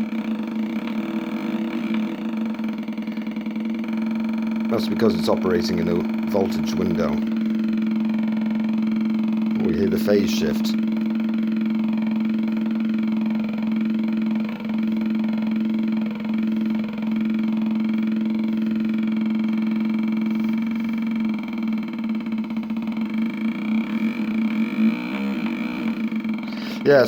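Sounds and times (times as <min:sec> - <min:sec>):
electronic engine-like drone: 0:00.0 - 0:27.0.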